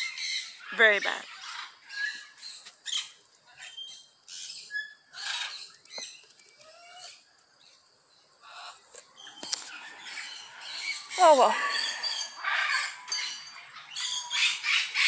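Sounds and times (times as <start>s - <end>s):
birds chirping and squawking: 0.0s - 7.3s, 8.2s - 15.0s.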